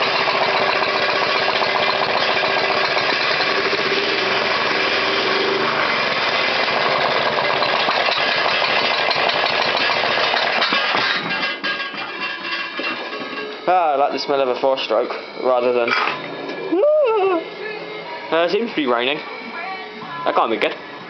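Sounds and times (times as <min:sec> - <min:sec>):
four-stroke engine running: 0:00.0 - 0:21.0.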